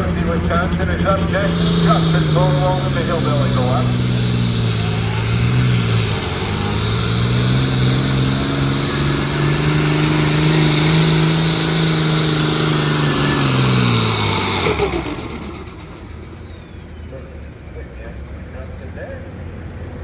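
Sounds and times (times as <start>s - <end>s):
vehicle engine at full throttle: 0.0s - 20.0s.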